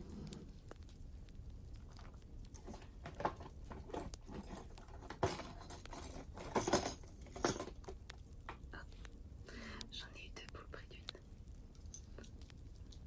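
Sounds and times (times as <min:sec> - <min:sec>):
decorations rustling: 0:00.0 - 0:13.0
decorations clicking: 0:00.1 - 0:13.0.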